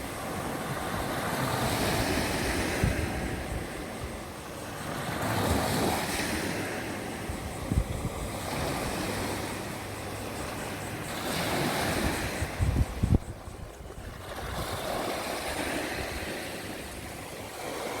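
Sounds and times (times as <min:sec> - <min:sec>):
wind buffeting microphone: 0:00.0 - 0:04.6, 0:05.2 - 0:18.0
ocean waves breaking on shore: 0:00.0 - 0:18.0.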